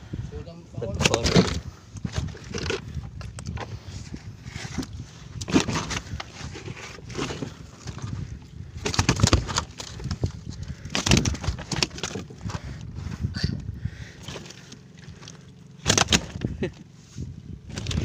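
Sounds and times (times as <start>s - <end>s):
steady low rumble: 0.0s - 18.0s
knocks and rustling of fish netting: 0.8s - 16.9s, 17.6s - 18.0s.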